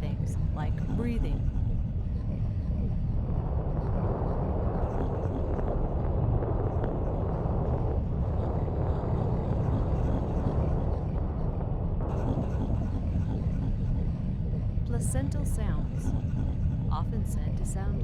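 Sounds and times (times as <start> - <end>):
doppler ultrasound whooshing: 0.0 - 18.0.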